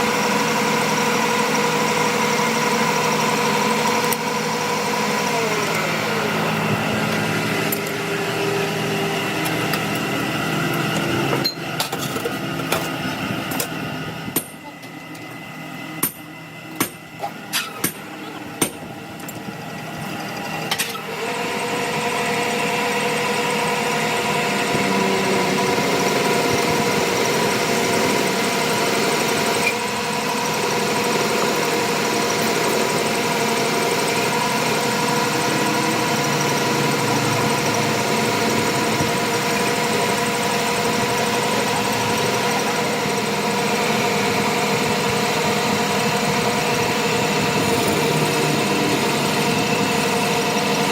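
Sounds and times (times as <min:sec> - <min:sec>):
machine motor humming: 0:00.0 - 0:50.9.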